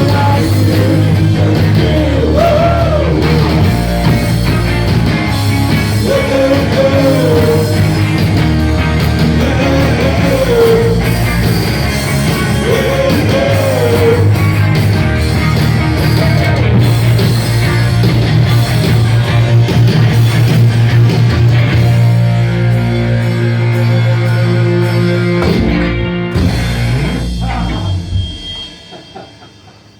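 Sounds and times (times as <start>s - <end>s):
rock band playing loud: 0.0s - 29.9s.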